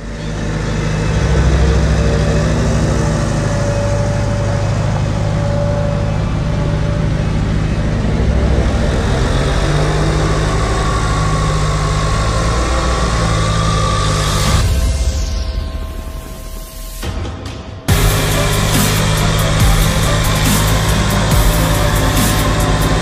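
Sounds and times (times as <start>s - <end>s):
tractor diesel engines running: 0.0s - 15.4s, 17.9s - 23.0s
steady high whine: 0.0s - 23.0s.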